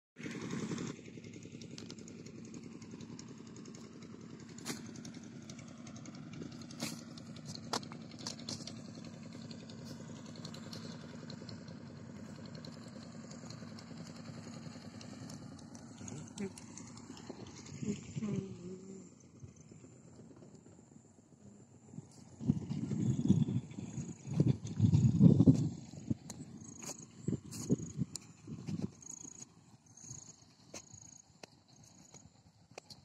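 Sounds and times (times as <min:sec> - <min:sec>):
small engine idling: 0:00.2 - 0:33.0.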